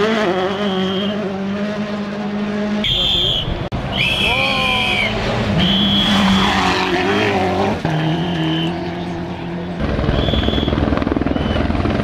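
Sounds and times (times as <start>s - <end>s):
rally car engine revving: 0.0s - 2.9s, 3.6s - 12.0s.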